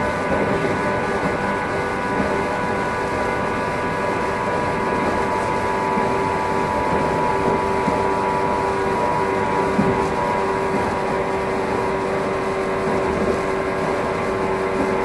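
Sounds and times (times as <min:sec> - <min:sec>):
traction motor whine: 0:00.0 - 0:15.0
train wheels rumbling on rails: 0:00.0 - 0:15.0.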